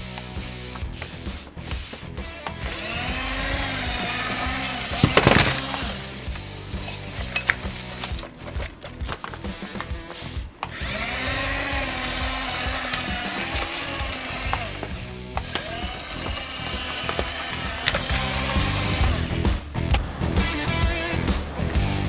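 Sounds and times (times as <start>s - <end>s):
background music: 0.0s - 22.0s
small electric motors whining: 0.1s - 19.6s.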